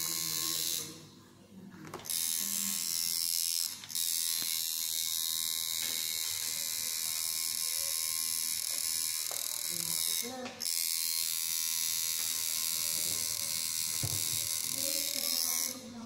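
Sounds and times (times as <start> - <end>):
electric tattoo machine buzzing: 0.0 - 1.0, 2.0 - 16.0.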